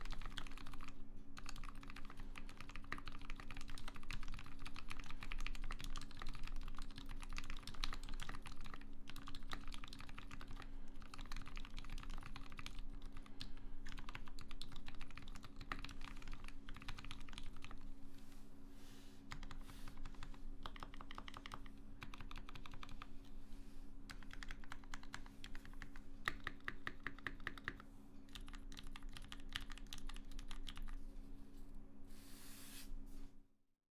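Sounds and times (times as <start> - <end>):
fast typing on mechanical keyboard: 0.0 - 17.9, 19.3 - 23.2, 24.1 - 31.0.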